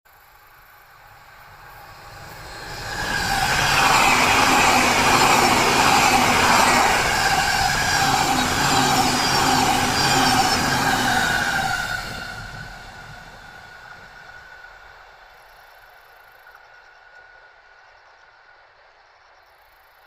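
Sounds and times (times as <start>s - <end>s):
electric train passing: 0.1s - 20.0s.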